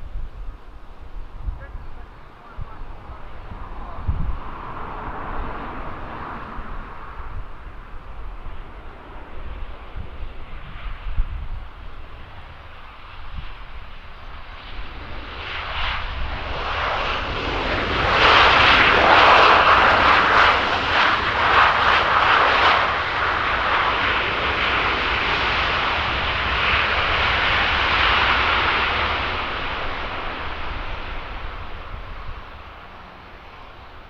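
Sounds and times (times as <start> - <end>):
airplane engine passing: 0.0 - 34.0.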